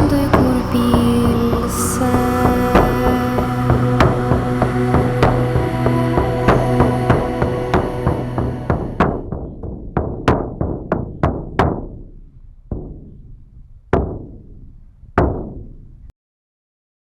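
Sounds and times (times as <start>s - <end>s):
resonant drum-like knocks: 0.0s - 15.9s.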